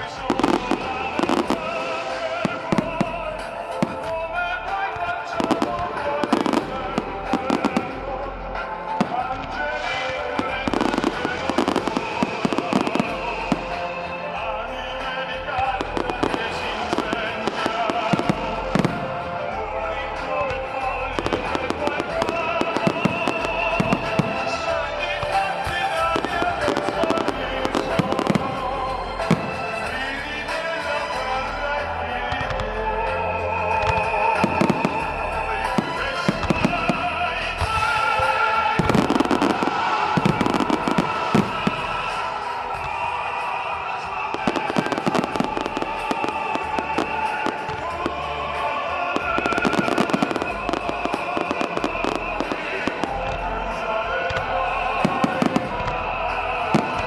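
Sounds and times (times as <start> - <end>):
fireworks bangs and crackles: 0.0 - 57.0
music with held notes: 0.0 - 57.0.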